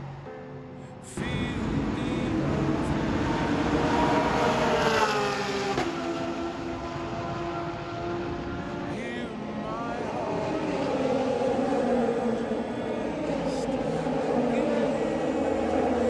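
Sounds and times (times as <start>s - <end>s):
race car engines at full throttle: 1.1s - 16.0s.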